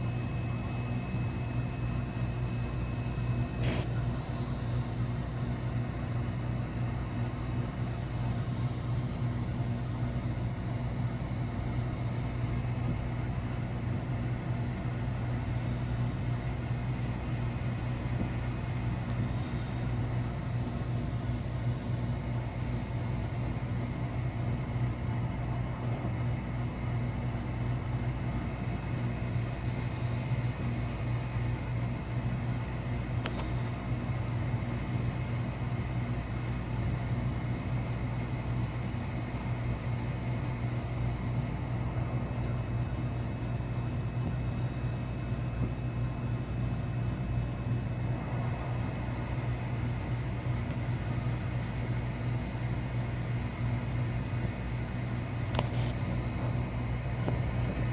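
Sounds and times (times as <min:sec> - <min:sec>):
low mechanical hum and rumble: 0:00.0 - 0:57.9.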